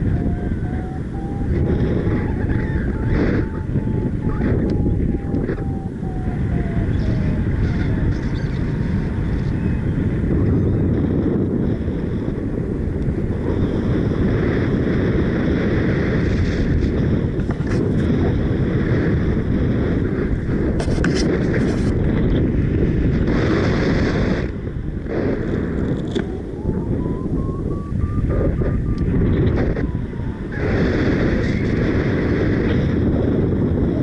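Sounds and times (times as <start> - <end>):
gusty wind on microphone: 0.0 - 34.0.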